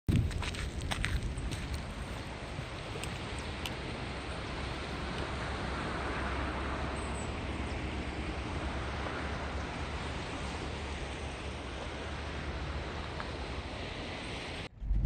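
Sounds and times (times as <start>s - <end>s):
wind rumbling on microphone: 0.1s - 15.0s
sea surf rushing: 1.8s - 14.7s.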